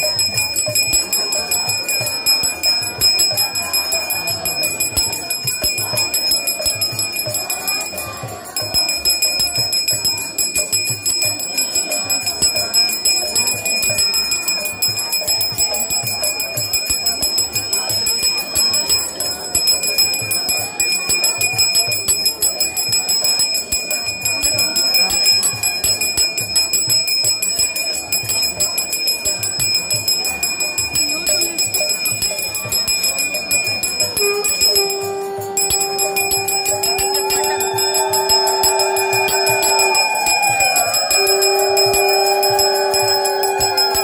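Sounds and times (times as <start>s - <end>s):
festival background sound: 0.0s - 44.0s
metal bell ringing rapidly: 0.0s - 44.0s.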